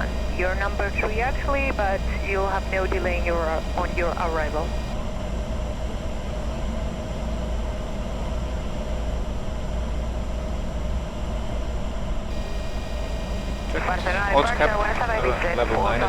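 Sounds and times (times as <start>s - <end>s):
airflow and jet engine rumble: 0.0s - 16.0s
faint steady hum: 0.0s - 16.0s.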